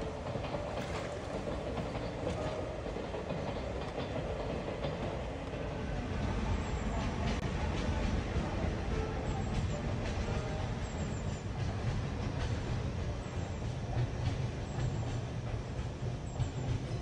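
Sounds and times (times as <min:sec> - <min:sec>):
train rumbling: 0:00.0 - 0:17.0
wheels clacking over rail joints: 0:00.0 - 0:17.0.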